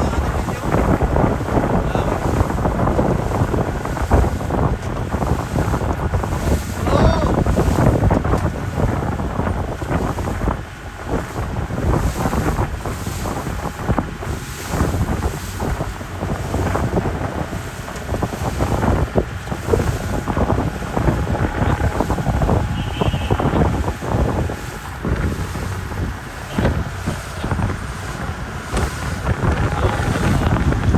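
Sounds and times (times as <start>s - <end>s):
boat and rushing water: 0.0s - 30.9s
wind buffeting microphone: 0.0s - 30.9s.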